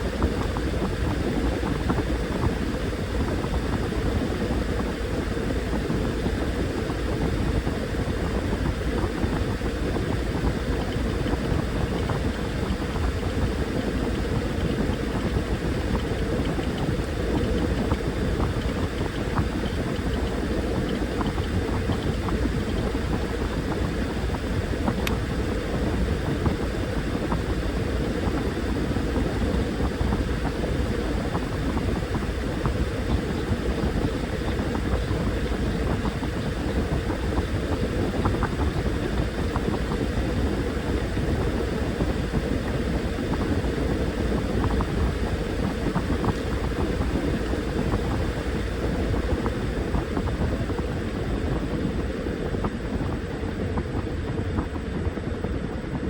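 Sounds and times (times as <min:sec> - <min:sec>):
washing machine churning water: 0:00.0 - 0:55.1
washing machine motor hum: 0:00.0 - 0:56.0.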